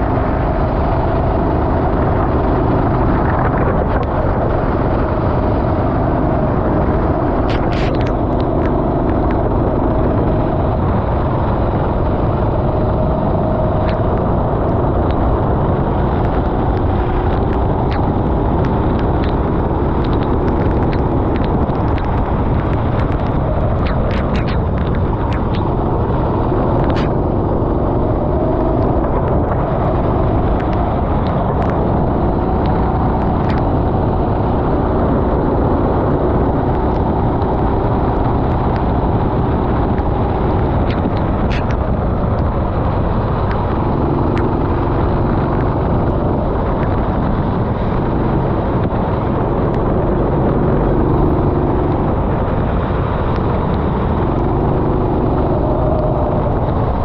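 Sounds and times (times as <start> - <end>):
wet track noise: 0.0 - 57.0
wind rushing: 0.0 - 57.0.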